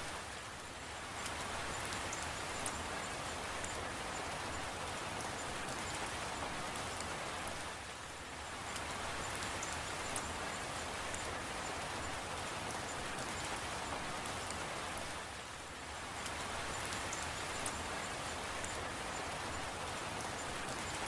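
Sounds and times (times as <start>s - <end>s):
steady rainfall: 0.0s - 21.0s
fine raindrop ticks: 1.2s - 15.5s, 16.1s - 21.0s.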